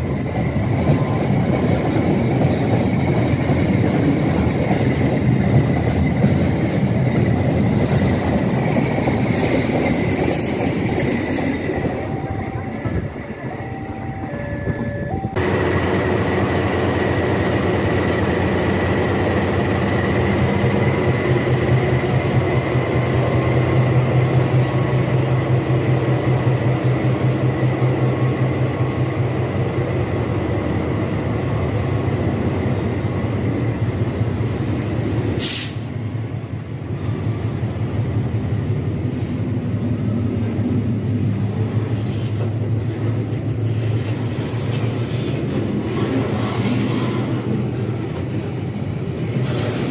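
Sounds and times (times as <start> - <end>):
diesel locomotive engine drone: 0.0 - 49.9
train wheels rolling on rails: 0.0 - 49.9.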